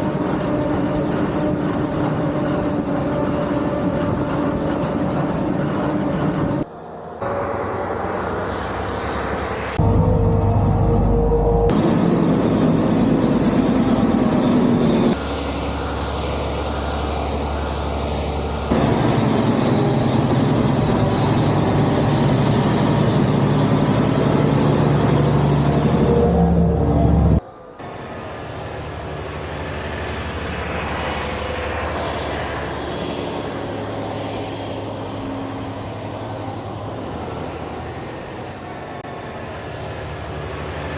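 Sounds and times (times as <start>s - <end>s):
harvesting machine engines: 0.0s - 40.9s.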